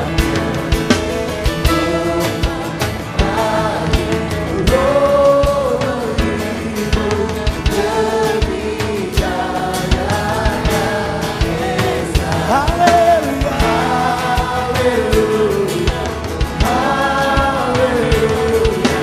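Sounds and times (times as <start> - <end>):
drum kit beating: 0.0 - 19.0
guitar: 0.0 - 19.0
person singing: 0.0 - 19.0.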